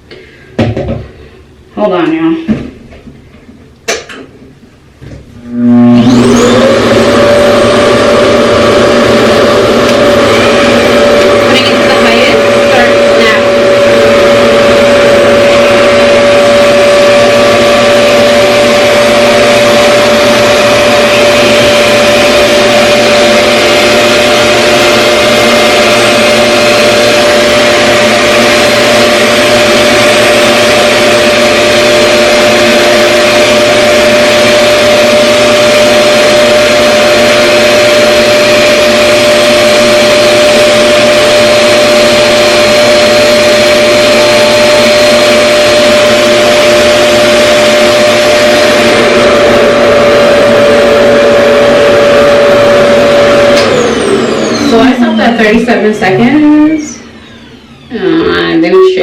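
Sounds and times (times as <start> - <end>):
hair dryer whirring: 5.4 - 59.0.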